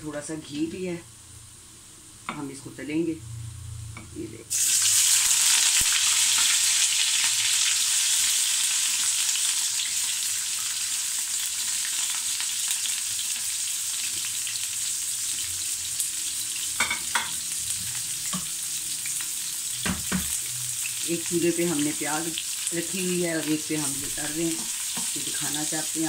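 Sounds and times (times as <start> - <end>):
vegetables sizzling in hot oil: 4.5 - 26.0.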